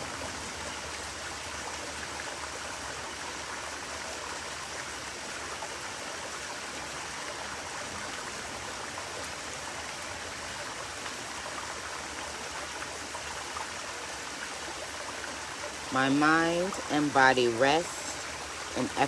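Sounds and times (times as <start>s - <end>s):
stream water flowing: 0.0s - 19.0s.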